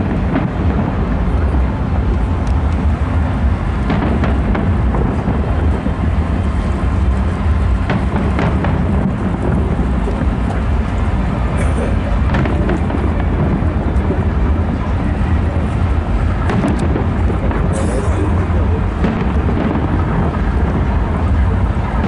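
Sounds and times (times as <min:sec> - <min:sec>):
fireworks rumble: 0:00.0 - 0:22.0
sharp fireworks crackles: 0:00.0 - 0:22.0.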